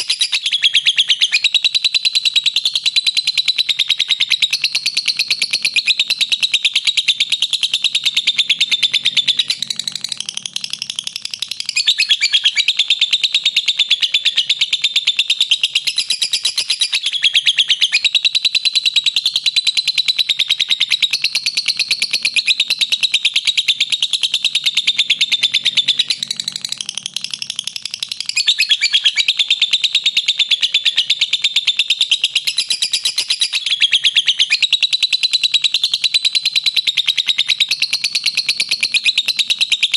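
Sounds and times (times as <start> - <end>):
lovebird trilling: 0.0 - 19.0, 19.6 - 35.4.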